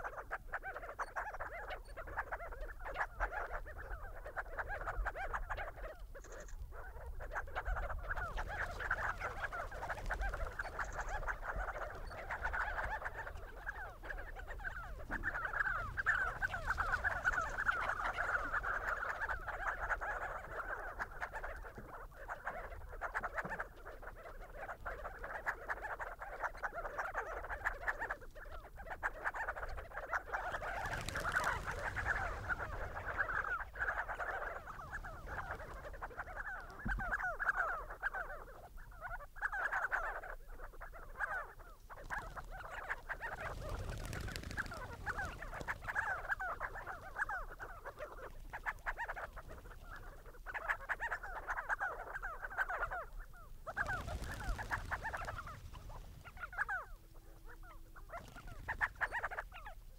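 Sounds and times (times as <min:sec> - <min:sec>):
flock of birds croaking: 0:00.0 - 0:59.9.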